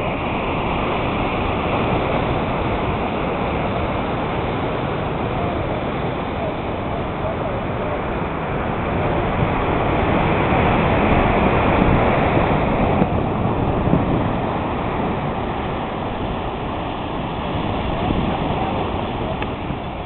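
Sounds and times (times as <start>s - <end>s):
surf breaking on rocks: 0.0s - 20.0s
wind buffeting microphone: 0.0s - 20.0s.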